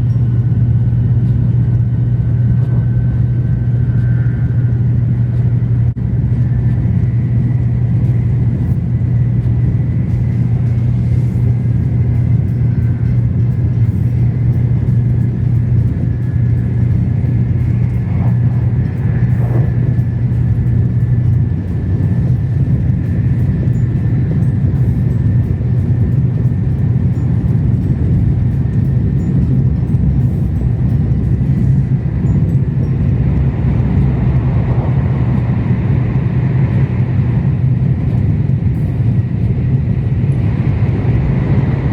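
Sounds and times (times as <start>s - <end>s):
train rumble inside cabin: 0.0s - 41.9s.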